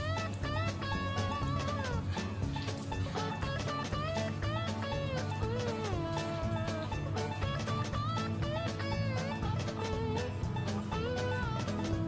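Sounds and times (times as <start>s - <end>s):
gliding melody over steady beat: 0.0s - 12.0s.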